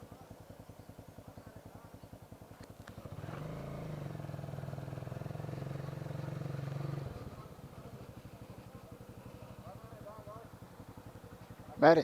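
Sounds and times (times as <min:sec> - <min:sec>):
motorcycle engine ticking over: 0:00.0 - 0:12.0.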